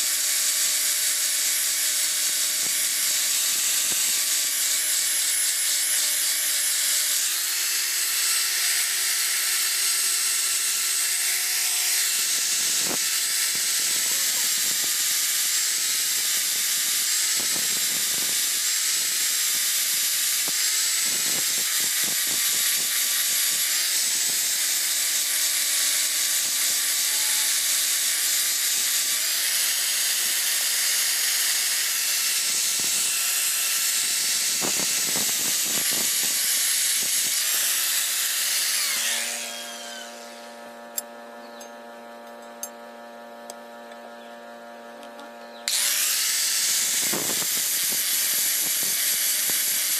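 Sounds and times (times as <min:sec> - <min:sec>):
angle grinder grinding steel: 0:00.0 - 0:42.8, 0:45.6 - 0:49.9.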